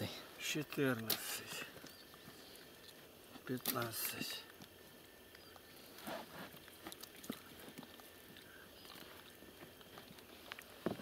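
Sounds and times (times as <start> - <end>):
wet handling of fish: 0.2 - 11.0.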